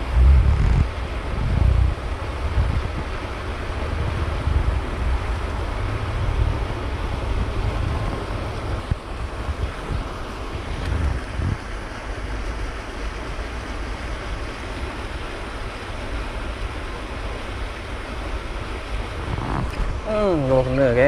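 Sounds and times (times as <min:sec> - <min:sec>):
steady outdoor hiss: 0:00.0 - 0:21.0
wind buffeting microphone: 0:00.0 - 0:21.0.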